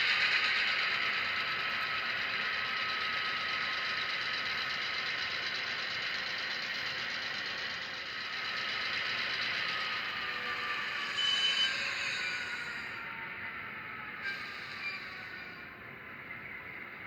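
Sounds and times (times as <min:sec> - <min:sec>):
model locomotive engine sound: 0:00.0 - 0:17.0
small motor and gears running: 0:00.0 - 0:17.0.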